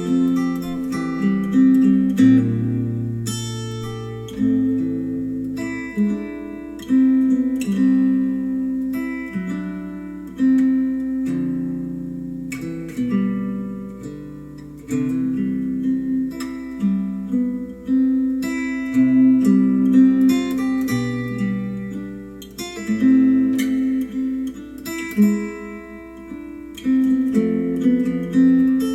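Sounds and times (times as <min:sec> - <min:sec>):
plucked acoustic guitar: 0:00.0 - 0:28.9.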